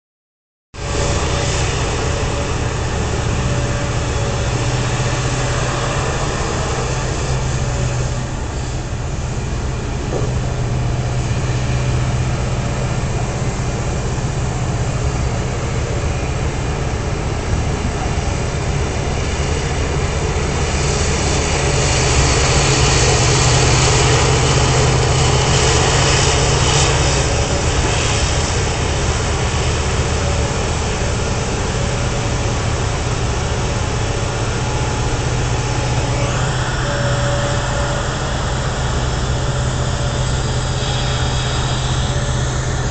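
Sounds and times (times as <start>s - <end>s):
excavator diesel engine humming: 0.8s - 42.9s.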